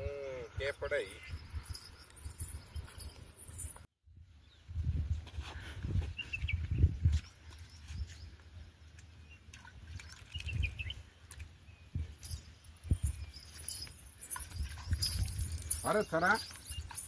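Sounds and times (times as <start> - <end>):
small birds chirping: 0.2 - 4.8, 6.1 - 17.0.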